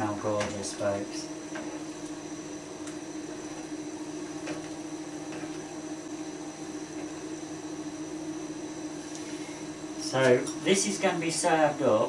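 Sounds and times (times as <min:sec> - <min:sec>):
extractor fan humming: 0:00.0 - 0:12.0.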